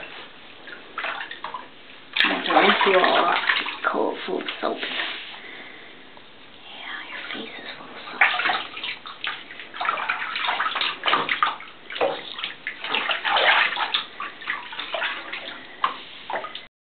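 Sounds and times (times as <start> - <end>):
bathwater splashing in a tub: 0.0 - 5.4, 7.1 - 16.7.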